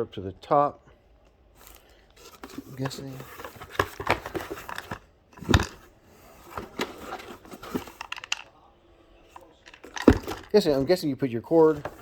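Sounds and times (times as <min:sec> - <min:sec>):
canister handling clicks and rustles: 0:01.6 - 0:08.6, 0:09.3 - 0:12.0.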